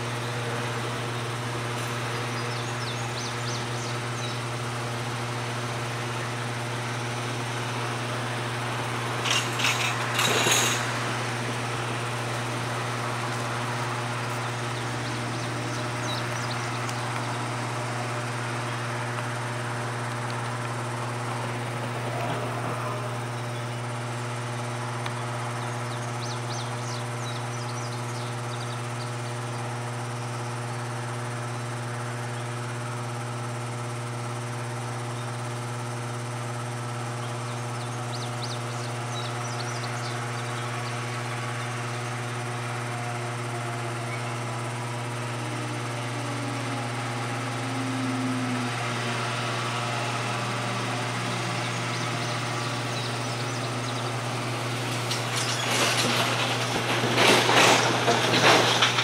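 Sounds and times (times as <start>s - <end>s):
freight train rumbling: 0.0s - 30.2s, 36.7s - 59.0s.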